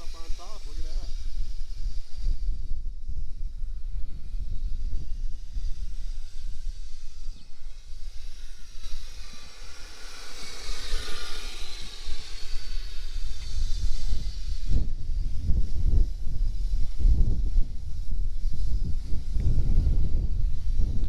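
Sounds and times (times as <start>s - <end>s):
electric motor whining: 0.0s - 21.0s
low wind rumble: 0.0s - 21.0s.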